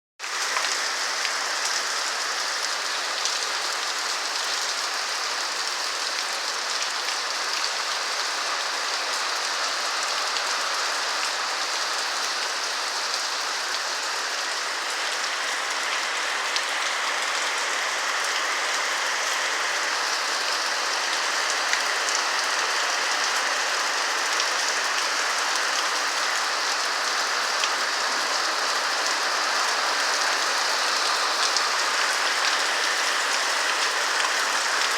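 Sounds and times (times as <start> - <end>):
rain on a roof: 0.2 - 34.9.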